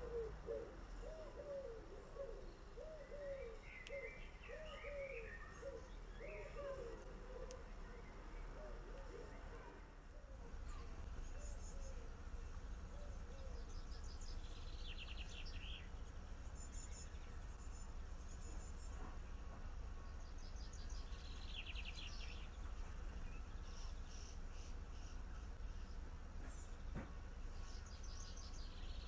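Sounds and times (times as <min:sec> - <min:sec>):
rapid bird trills: 0:00.0 - 0:29.0
songbirds calling and singing: 0:00.0 - 0:29.0
steady low hum: 0:00.0 - 0:29.0.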